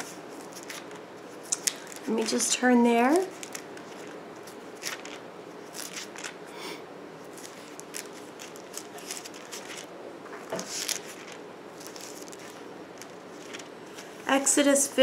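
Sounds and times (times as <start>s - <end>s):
book pages rustling: 0.0s - 2.4s, 3.2s - 6.4s, 7.2s - 14.3s.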